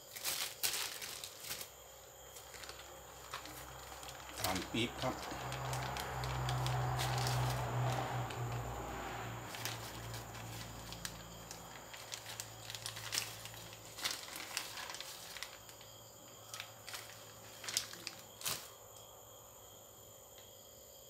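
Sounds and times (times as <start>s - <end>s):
plastic bag crinkling: 0.0s - 8.7s, 9.4s - 18.8s.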